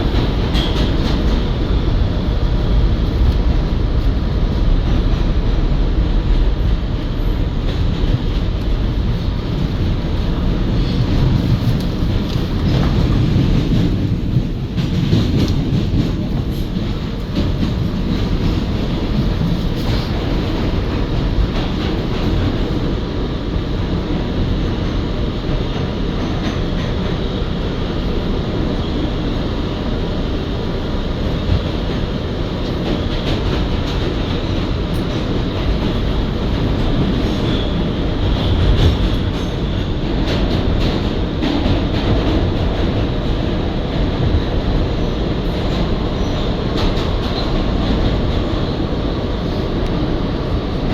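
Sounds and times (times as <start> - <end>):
subway wheels rumbling on rail: 0.0 - 50.9.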